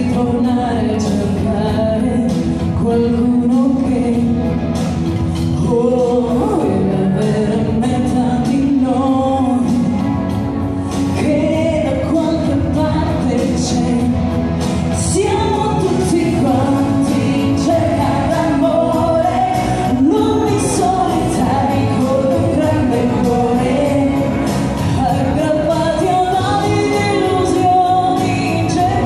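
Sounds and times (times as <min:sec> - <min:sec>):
woman singing through pa: 0:00.0 - 0:29.0.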